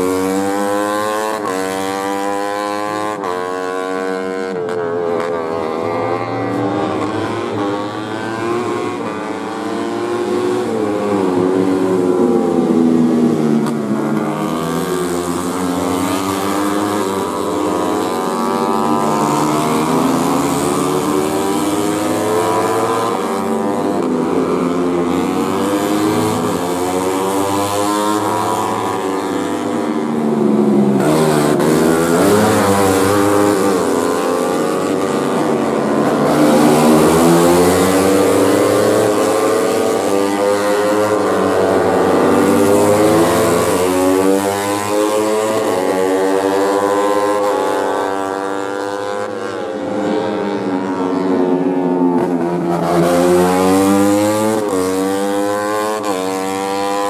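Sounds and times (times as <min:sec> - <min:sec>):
racing motorcycle engines revving: 0:00.0 - 0:57.0.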